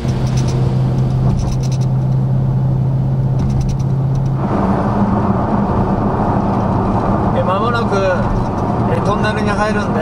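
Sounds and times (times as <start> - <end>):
car engine droning: 0.0 - 10.0
road noise: 0.0 - 10.0.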